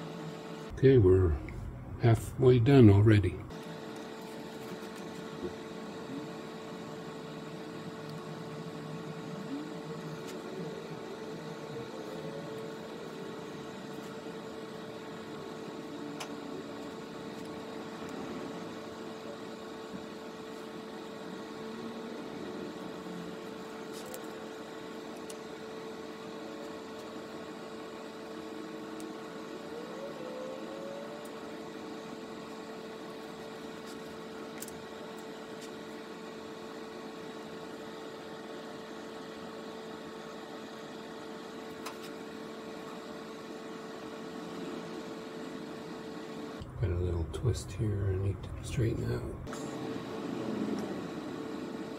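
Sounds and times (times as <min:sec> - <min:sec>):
room hum with steady tone: 0:00.0 - 0:51.9.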